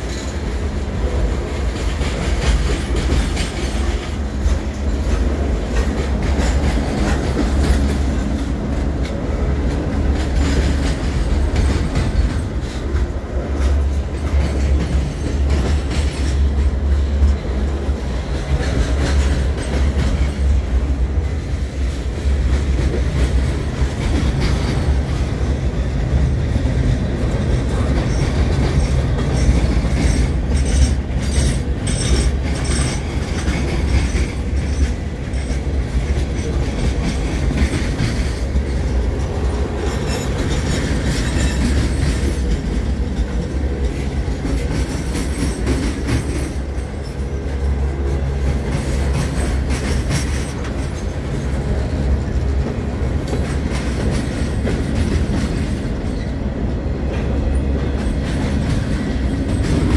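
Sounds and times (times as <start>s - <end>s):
freight train rumbling past: 0.0s - 59.9s
wheels clicking over rail joints: 0.0s - 59.9s.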